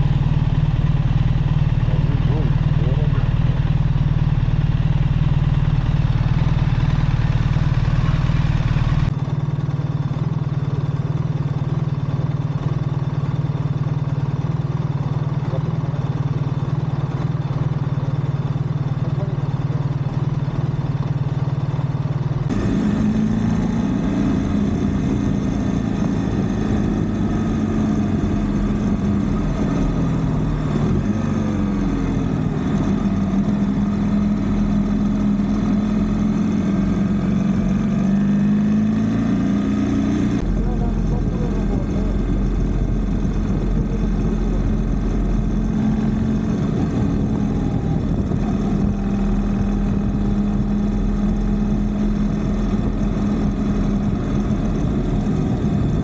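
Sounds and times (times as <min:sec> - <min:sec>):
motorcycle engine droning: 0:00.0 - 0:56.0.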